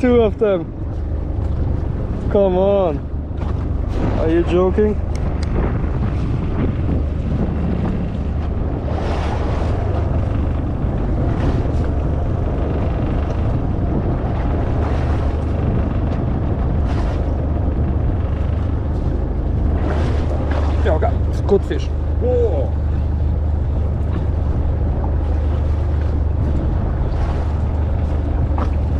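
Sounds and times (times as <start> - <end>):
steady low rumble: 0.0 - 28.9
wind buffeting microphone: 0.0 - 28.9.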